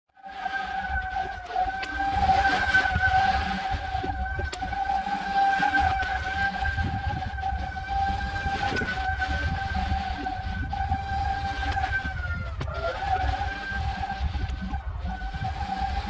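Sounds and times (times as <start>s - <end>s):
electric lawn mower whining: 0.4s - 14.6s.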